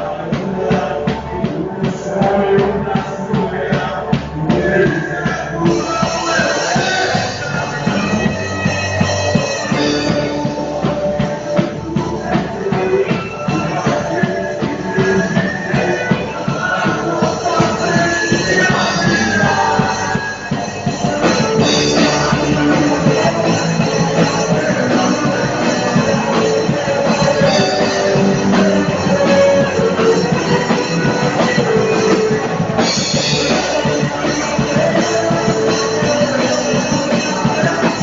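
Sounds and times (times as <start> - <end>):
drum kit playing: 0.0 - 38.0
rock band recording with guitars: 0.0 - 38.0.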